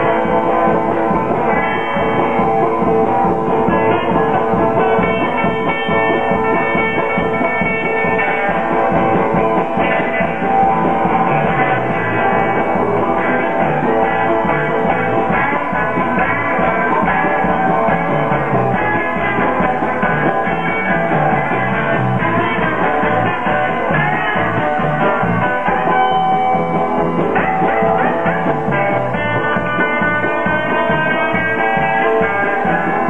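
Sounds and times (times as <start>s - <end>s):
drum kit beat: 0.0s - 33.0s
electric guitars: 0.0s - 33.0s.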